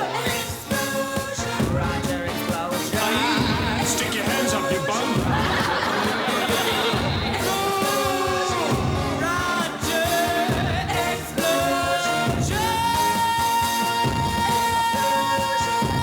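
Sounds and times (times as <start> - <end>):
person singing with band: 0.0 - 16.0.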